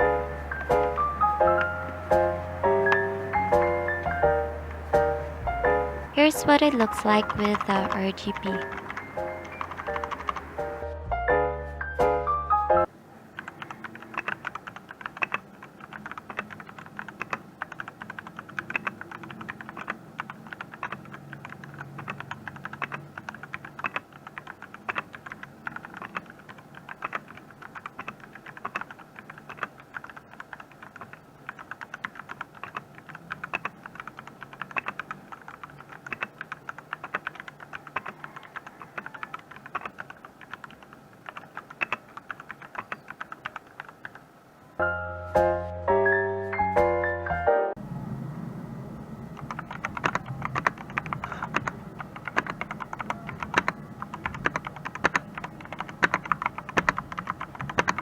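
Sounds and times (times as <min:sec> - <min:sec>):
mechanical keyboard typing: 0:00.0 - 0:05.0, 0:06.2 - 0:10.9, 0:13.3 - 0:44.3, 0:49.4 - 0:58.0.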